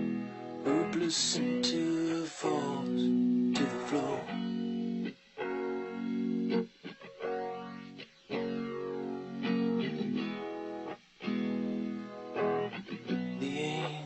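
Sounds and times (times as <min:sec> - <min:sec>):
rock guitar chords ringing: 0:00.0 - 0:14.0.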